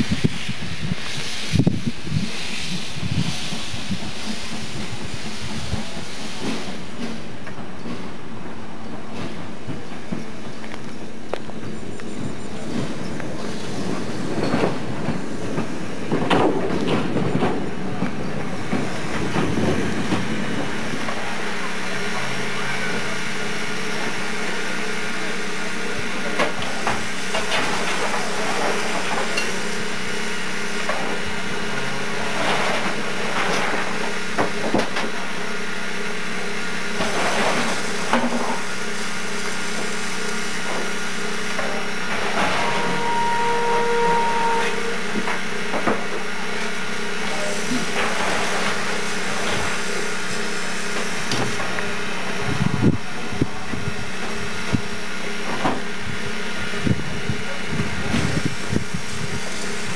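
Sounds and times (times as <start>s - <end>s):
train engine hum: 0.0s - 59.9s
train rolling with knocks: 0.0s - 59.9s.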